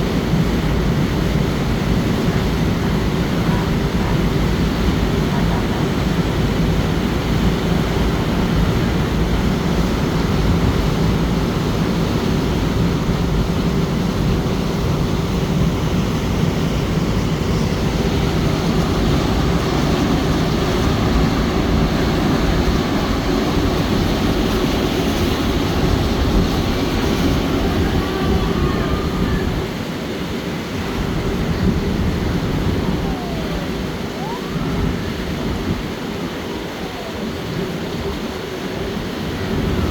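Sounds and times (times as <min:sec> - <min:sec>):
ship engine droning: 0:00.0 - 0:39.9.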